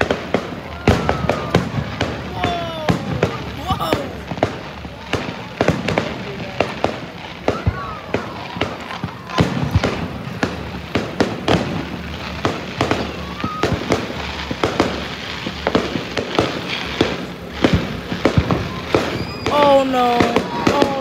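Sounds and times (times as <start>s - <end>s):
fireworks bangs: 0.0s - 21.0s
rumble and crackle of bursts: 0.0s - 21.0s.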